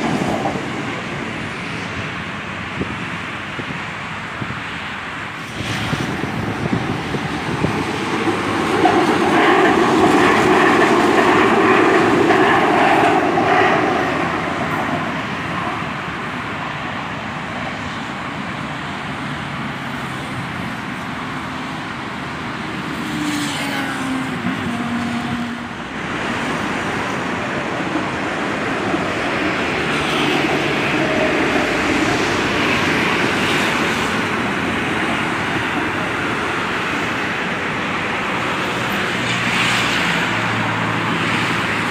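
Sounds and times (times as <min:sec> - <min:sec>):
metro train rumbling past: 0:00.0 - 0:41.9.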